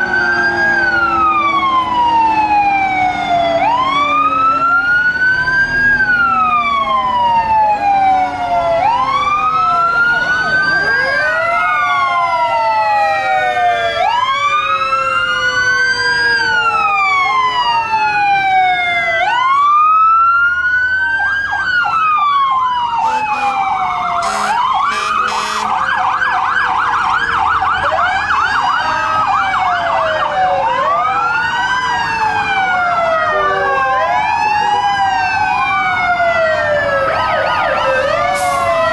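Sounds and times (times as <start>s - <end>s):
fire truck sirens wailing: 0.0s - 38.9s
siren yelping: 0.0s - 38.9s.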